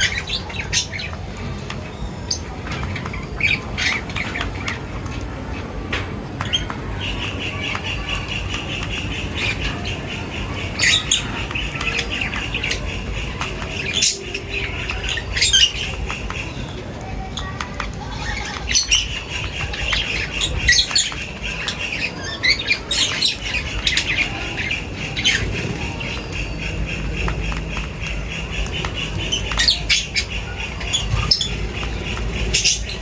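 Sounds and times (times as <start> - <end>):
birds calling: 0.0 - 33.0
high chattering bird calls: 0.0 - 33.0.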